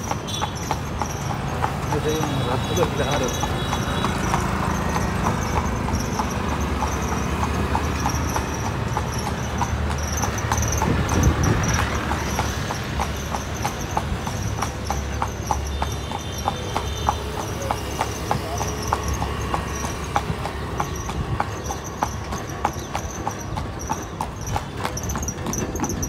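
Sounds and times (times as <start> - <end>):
horse hooves on asphalt: 0.0 - 26.0
street traffic rumble: 0.0 - 26.0.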